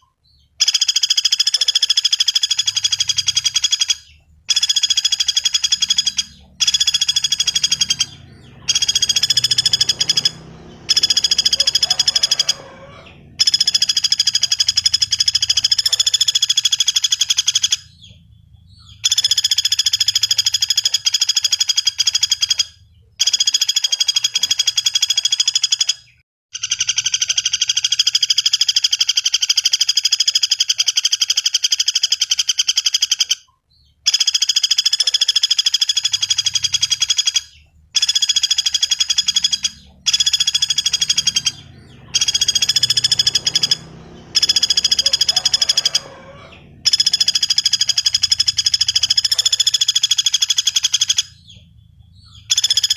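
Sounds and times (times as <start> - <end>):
woodpecker rattling trills: 0.0 - 52.9.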